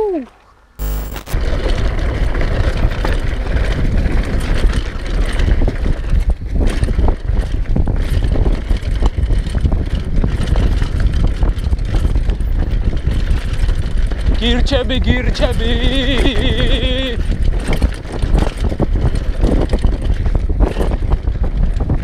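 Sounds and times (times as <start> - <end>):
bike rattling on dirt trail: 1.3 - 22.0
wind buffeting microphone: 1.4 - 22.0.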